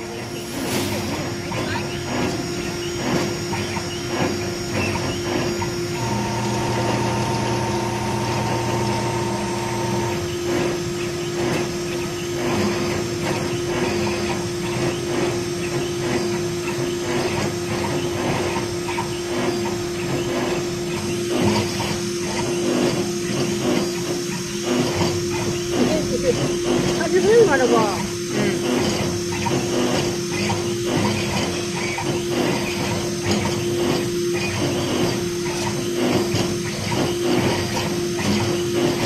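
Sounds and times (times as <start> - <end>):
scratchy cutting noise: 0.0 - 10.8, 12.4 - 39.0
steady tones: 0.0 - 11.5, 15.1 - 39.0
engraving machine spindle whine: 0.0 - 39.0.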